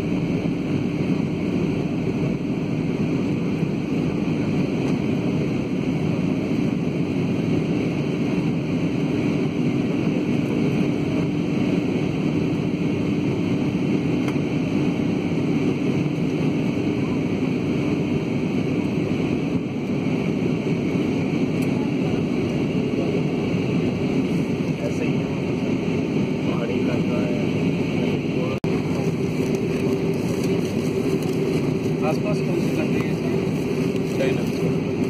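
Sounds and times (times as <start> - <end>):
jet engines roaring in cabin: 0.0 - 35.0.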